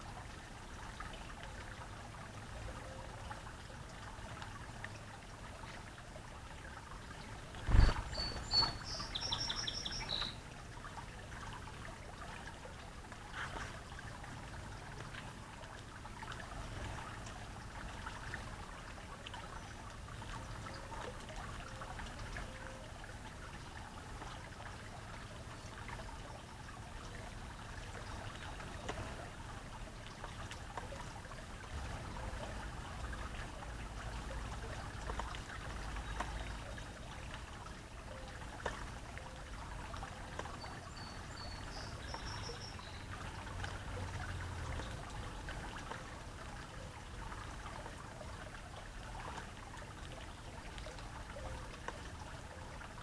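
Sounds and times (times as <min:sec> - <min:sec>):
trickle of running water: 0:00.0 - 0:53.0.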